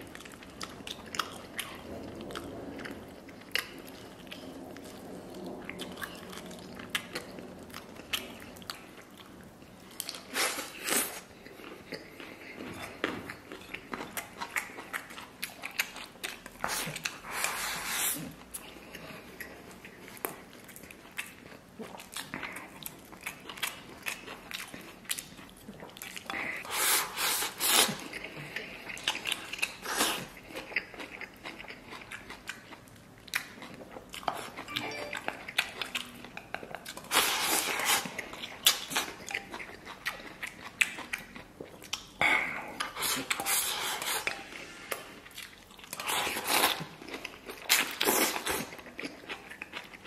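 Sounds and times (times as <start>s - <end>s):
man chewing food: 0.0s - 50.0s.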